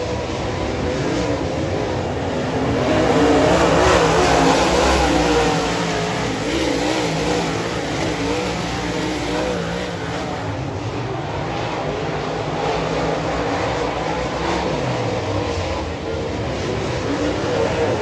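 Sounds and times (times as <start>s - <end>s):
race car engines racing past: 0.0s - 18.0s.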